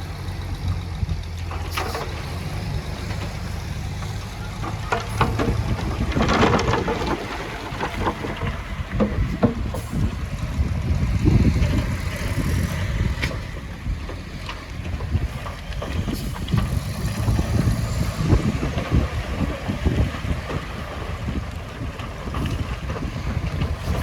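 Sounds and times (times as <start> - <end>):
heavy diesel machinery rumbling: 0.0 - 24.0
wind buffeting microphone: 2.3 - 24.0.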